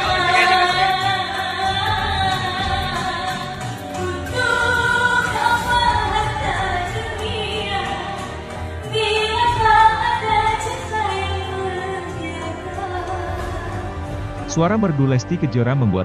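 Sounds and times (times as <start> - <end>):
woman singing into a microphone: 0.0 - 14.4
backing track music: 0.0 - 16.0.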